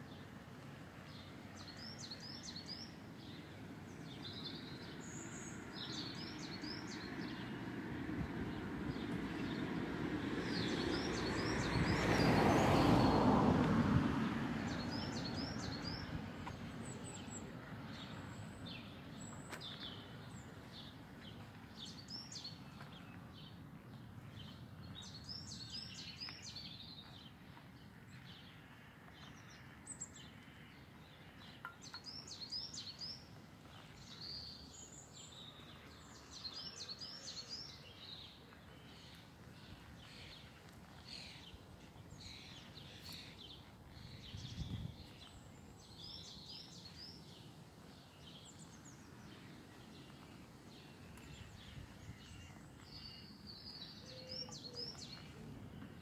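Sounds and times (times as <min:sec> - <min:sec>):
songbirds chirping and singing: 0:01.0 - 0:07.6, 0:10.4 - 0:13.3, 0:14.7 - 0:56.0.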